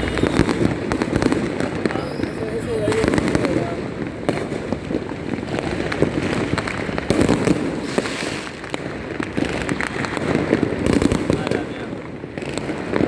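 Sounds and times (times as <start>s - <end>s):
fireworks and firecrackers crackling: 0.0s - 13.0s.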